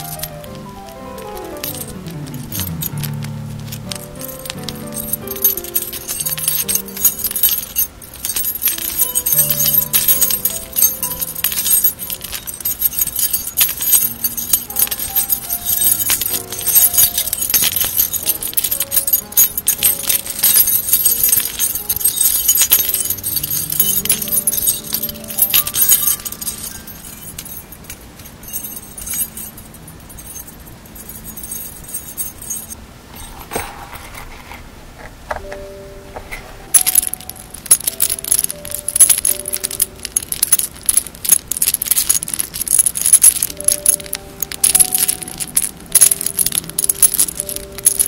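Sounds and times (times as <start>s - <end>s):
soft background music: 0.0s - 32.8s, 35.3s - 48.0s
earrings jingling and clinking: 0.0s - 34.4s, 35.3s - 48.0s.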